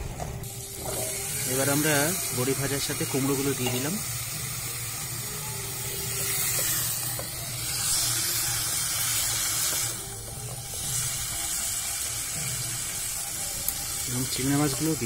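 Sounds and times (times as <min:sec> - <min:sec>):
pumpkin sizzling in hot oil: 0:00.0 - 0:15.0.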